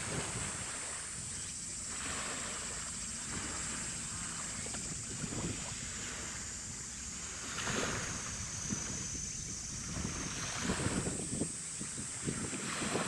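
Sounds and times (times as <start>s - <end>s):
high-pitched hiss: 0.0s - 12.7s
sloshing waves: 0.0s - 13.0s
wind buffeting microphone: 0.0s - 13.0s.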